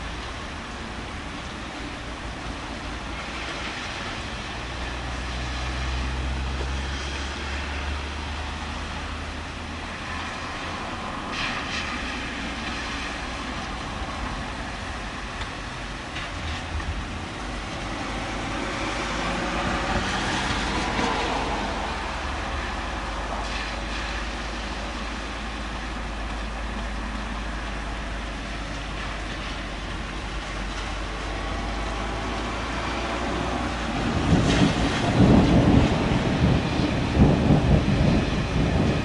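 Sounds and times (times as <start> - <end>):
thunderstorm rumble and hiss: 0.0 - 39.0.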